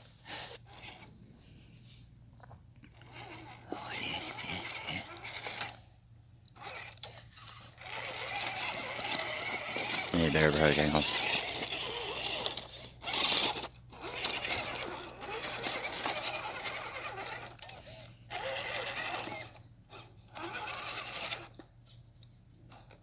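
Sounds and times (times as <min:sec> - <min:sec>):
rc car motor whirring: 0:00.2 - 0:02.2, 0:02.8 - 0:23.0.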